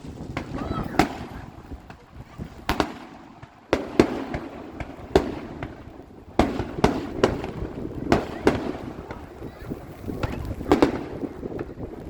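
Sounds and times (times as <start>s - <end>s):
fireworks shells bursting: 0.0s - 12.0s.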